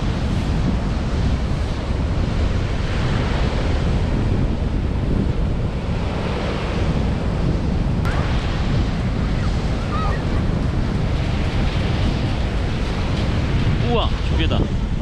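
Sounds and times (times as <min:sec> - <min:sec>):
sea waves on sandy beach: 0:00.0 - 0:15.0
wind buffeting microphone: 0:00.0 - 0:15.0.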